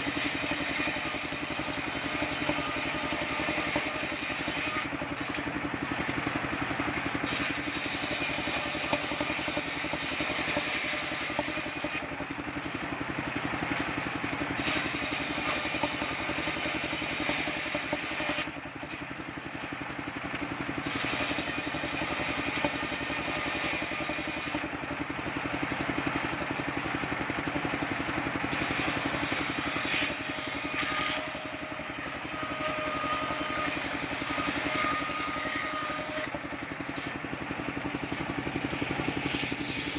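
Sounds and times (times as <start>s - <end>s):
circular saw blade cutting wood: 0.0s - 25.2s, 25.8s - 39.9s
sawmill engine running: 0.0s - 39.9s.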